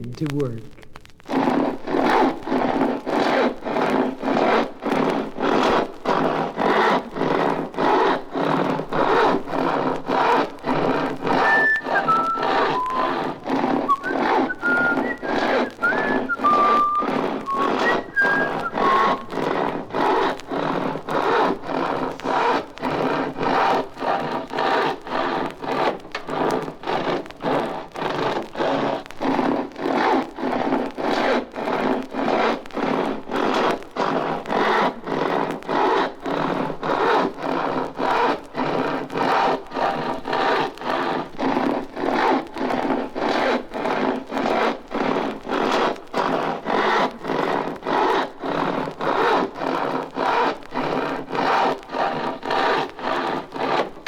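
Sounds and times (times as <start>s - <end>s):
hand saw cutting wood: 1.3s - 54.0s.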